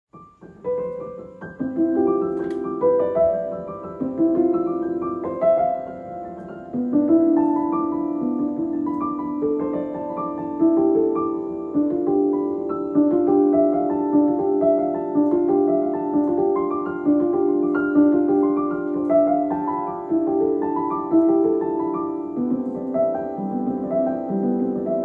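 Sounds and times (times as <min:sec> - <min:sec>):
slow piano melody: 0:00.1 - 0:25.0.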